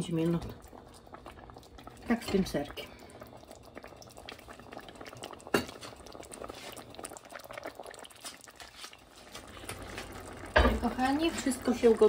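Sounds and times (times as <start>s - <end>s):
stew bubbling and popping: 0.0s - 12.0s.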